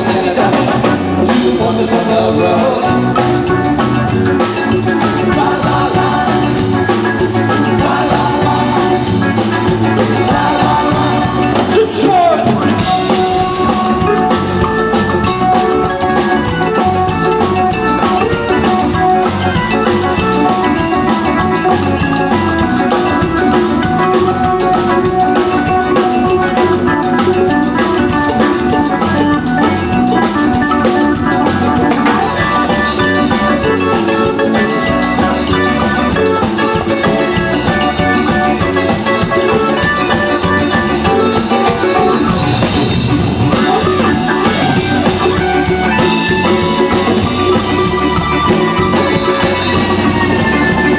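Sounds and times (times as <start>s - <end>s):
drum kit and hand percussion: 0.0s - 50.9s
live band playing: 0.0s - 50.9s.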